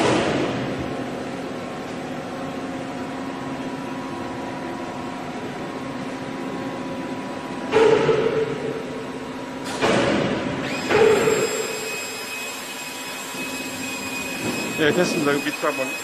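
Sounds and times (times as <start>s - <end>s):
lathe mechanical hum: 0.0s - 16.0s.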